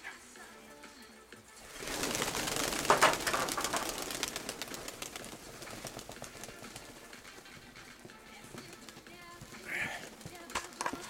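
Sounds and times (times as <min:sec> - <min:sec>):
pigeon wings flapping: 0:01.6 - 0:11.0.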